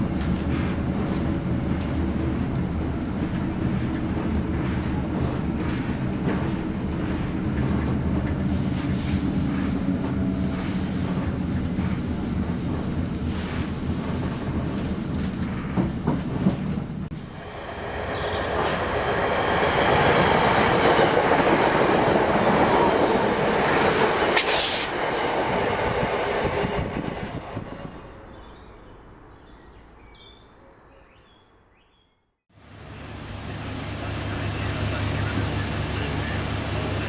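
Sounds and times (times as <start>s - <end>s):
passenger train rushing past: 0.0s - 28.4s, 32.6s - 37.0s.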